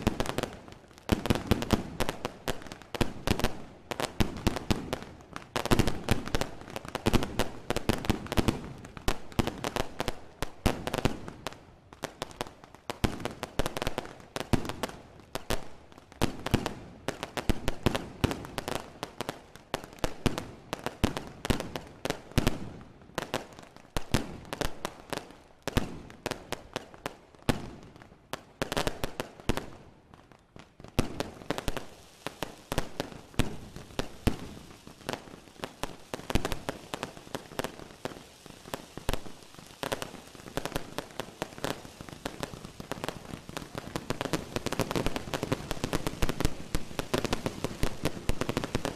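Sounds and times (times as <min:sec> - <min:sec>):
fireworks banging and crackling: 0:00.0 - 0:48.9.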